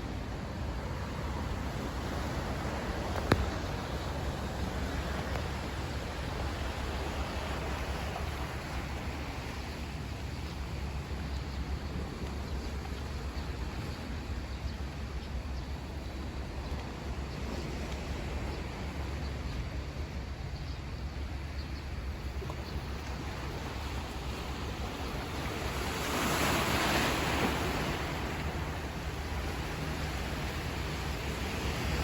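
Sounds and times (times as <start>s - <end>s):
sea surf: 0.0s - 32.0s.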